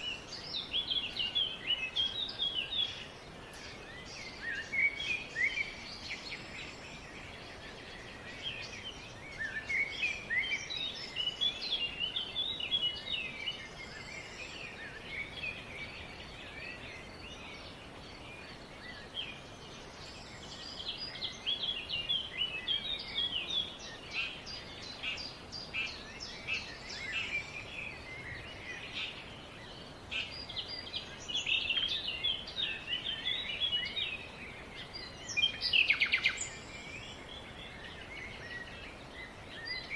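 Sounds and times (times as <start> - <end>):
faint steady background noise: 0.0 - 39.9
songbirds chirping and twittering: 0.0 - 39.9.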